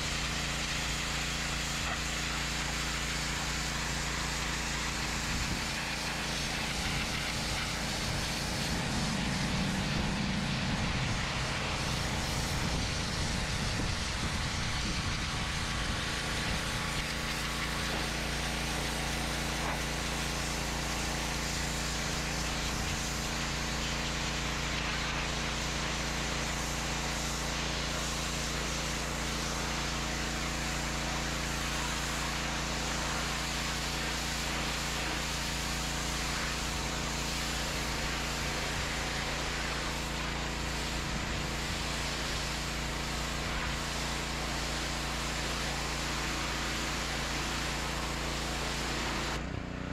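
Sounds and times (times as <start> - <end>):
high-pressure water jet hissing: 0.0 - 49.5
pressure washer engine running: 0.0 - 49.9.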